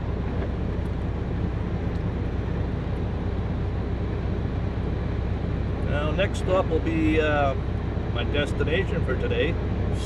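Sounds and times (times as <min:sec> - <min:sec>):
engine and road rumble: 0:00.0 - 0:10.0.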